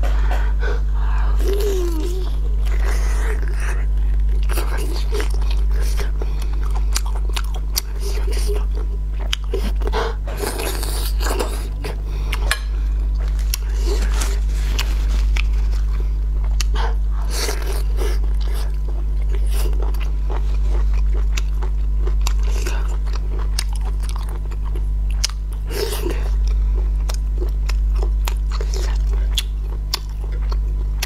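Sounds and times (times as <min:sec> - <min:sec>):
steady low hum: 0:00.0 - 0:31.0
close-up chewing: 0:01.4 - 0:31.0.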